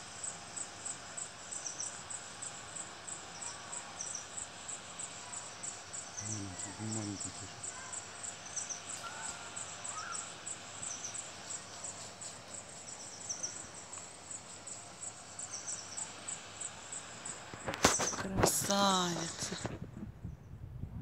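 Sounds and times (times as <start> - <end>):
insects chirping: 0.0 - 19.9.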